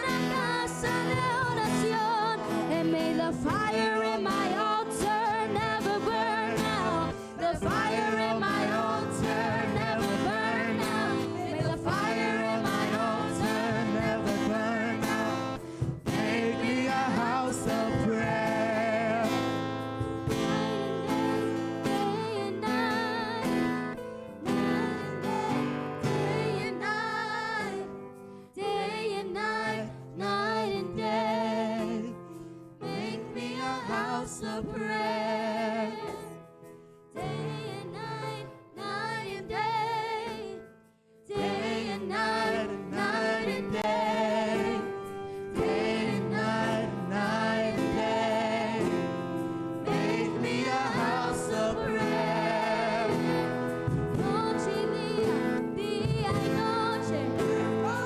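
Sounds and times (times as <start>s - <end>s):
voices singing in harmony: 0.0s - 36.5s, 37.1s - 58.0s
instrumental accompaniment: 0.0s - 58.0s.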